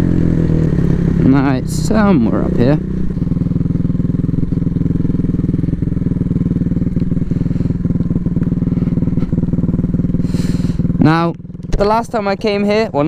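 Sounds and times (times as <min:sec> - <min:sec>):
dirt bike engine at low revs: 0:00.0 - 0:13.0.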